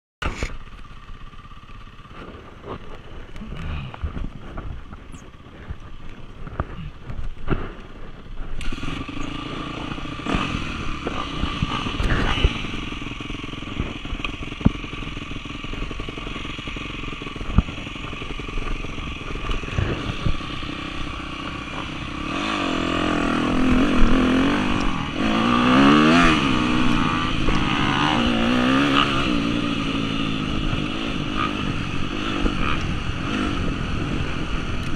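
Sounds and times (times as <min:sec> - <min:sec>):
dirt bike engine revving: 0:01.3 - 0:34.9.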